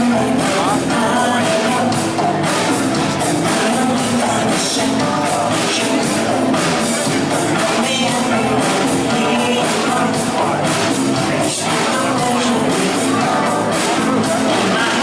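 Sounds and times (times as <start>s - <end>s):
band playing pop-rock: 0.0s - 15.0s
person singing lead vocal: 0.0s - 15.0s.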